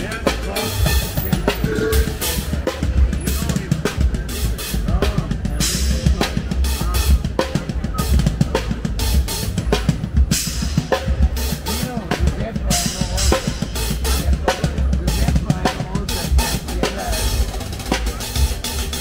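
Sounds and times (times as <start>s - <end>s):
drum kit steady beat: 0.0s - 19.0s.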